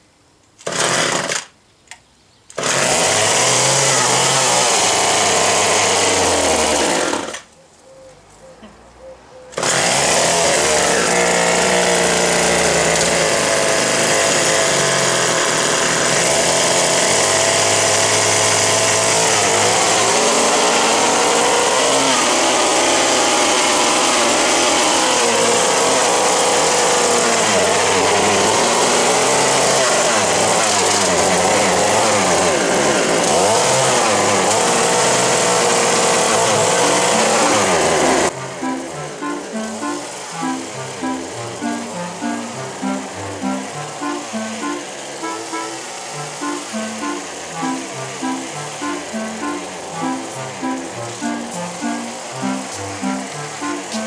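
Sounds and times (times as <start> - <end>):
hedge trimmer engine running: 0.6 - 1.5, 2.5 - 7.5, 9.6 - 54.0.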